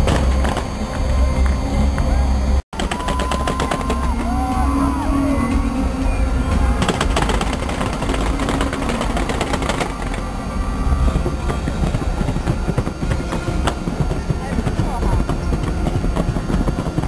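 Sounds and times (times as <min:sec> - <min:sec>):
fireworks crackling: 0:00.0 - 0:17.0
fireworks whistles gliding: 0:00.0 - 0:17.0
low rumble: 0:00.0 - 0:17.0
music: 0:00.0 - 0:17.0.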